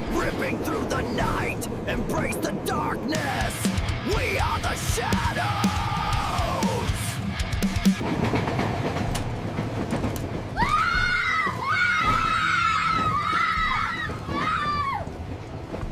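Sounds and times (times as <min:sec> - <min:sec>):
rail clicks: 0:00.0 - 0:15.9
train rumbling on rails: 0:00.0 - 0:15.9.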